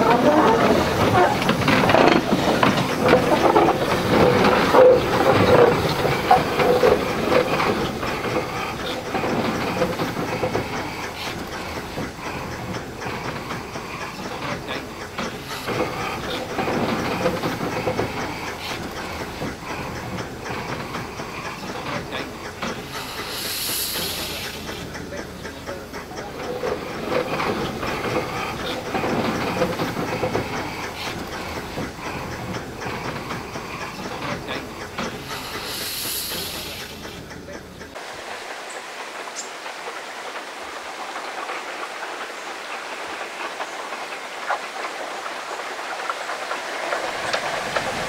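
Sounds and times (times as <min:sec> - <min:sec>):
steam locomotive hissing: 0:00.0 - 0:48.0.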